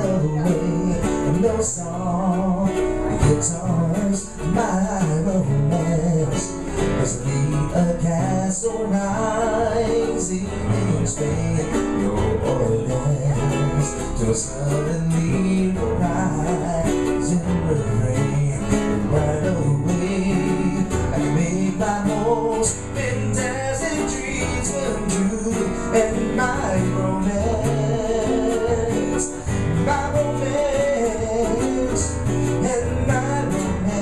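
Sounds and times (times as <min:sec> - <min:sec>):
person singing with wavering voice: 0:00.0 - 0:34.0
strummed guitar ukulele and banjo: 0:00.0 - 0:34.0.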